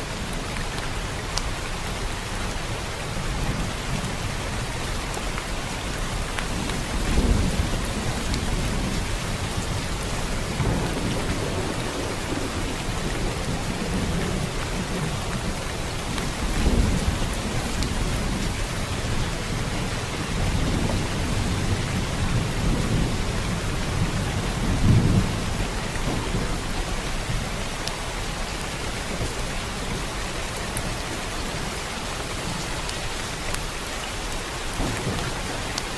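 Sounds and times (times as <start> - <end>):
rain falling: 0.0 - 35.9
thunder rumbling: 6.1 - 33.8, 34.6 - 35.9.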